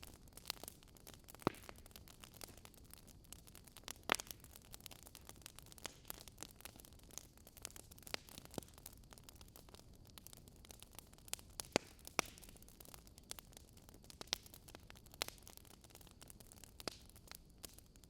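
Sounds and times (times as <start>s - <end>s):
logs crackling and popping: 0.0s - 18.0s.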